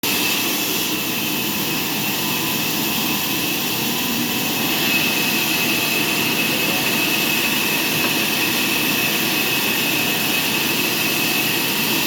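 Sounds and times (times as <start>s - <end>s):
high machine whine: 0.0s - 12.0s
sawmill machinery hiss: 0.0s - 12.0s.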